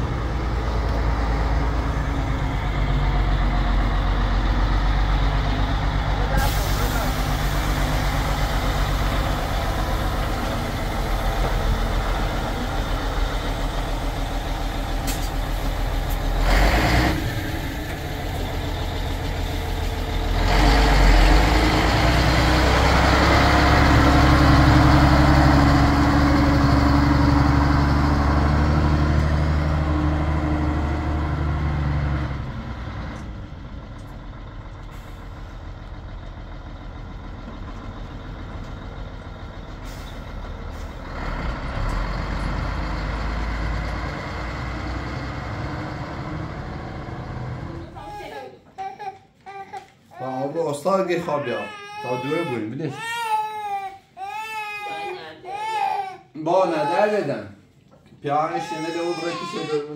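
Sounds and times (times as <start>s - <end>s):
diesel truck engine: 0.0s - 48.1s.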